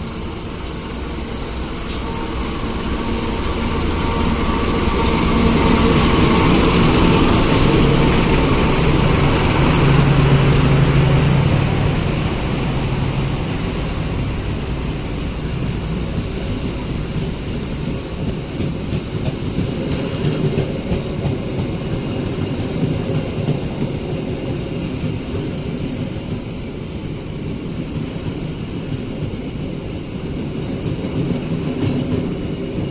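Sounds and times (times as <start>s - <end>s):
diesel locomotive engine drone: 0.0s - 32.9s
train carriages rumbling: 0.0s - 32.9s.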